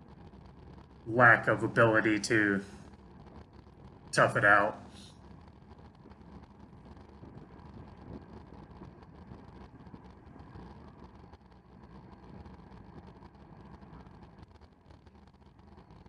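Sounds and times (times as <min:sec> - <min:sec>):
wind and tyre rumble: 0:00.0 - 0:16.0.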